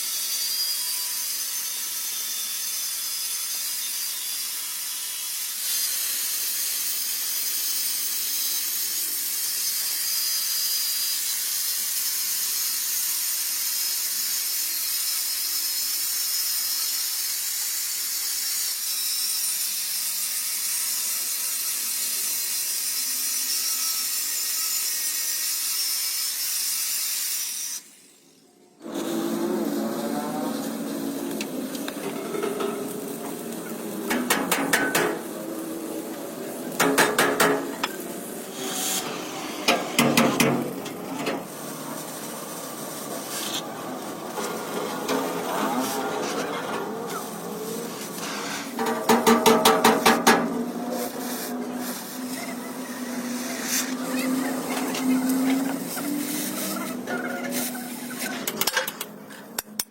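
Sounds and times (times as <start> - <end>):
harsh hissing of metalwork: 5.3 - 59.6.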